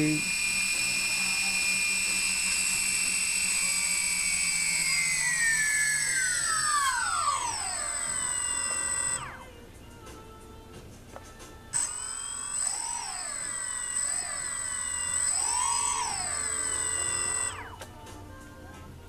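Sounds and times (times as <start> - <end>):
drone motors whining: 0.0 - 9.6, 11.8 - 18.2.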